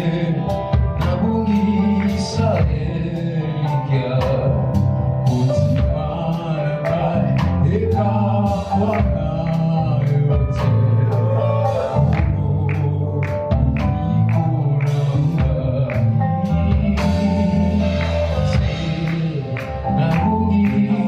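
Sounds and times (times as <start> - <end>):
bass guitar: 0.0 - 21.0
drums playing a steady beat: 0.0 - 21.0
electric guitar: 0.0 - 21.0
people singing: 0.0 - 21.0.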